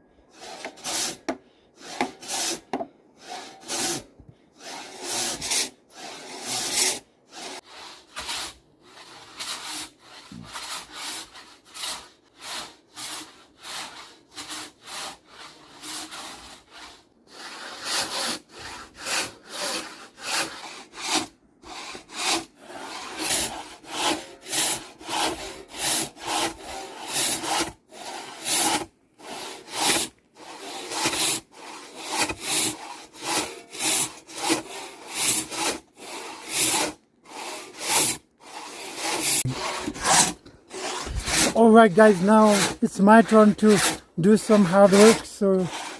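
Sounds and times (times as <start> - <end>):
hand saw cutting timber: 0.3 - 45.9.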